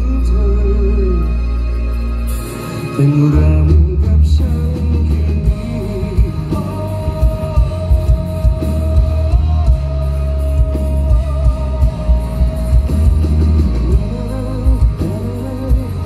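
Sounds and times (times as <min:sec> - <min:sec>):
man singing: 0:00.0 - 0:01.9, 0:02.7 - 0:16.0
live rock band playing: 0:00.0 - 0:16.0.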